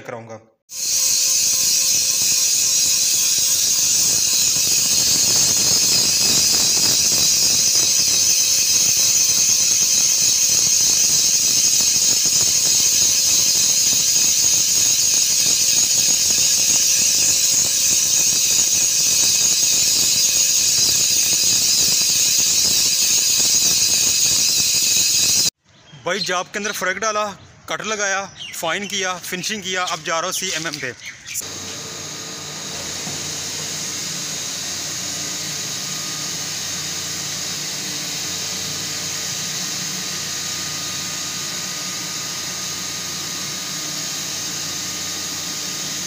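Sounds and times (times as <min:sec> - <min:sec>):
grinder spindle whining: 0:00.7 - 0:25.6, 0:28.9 - 0:46.0.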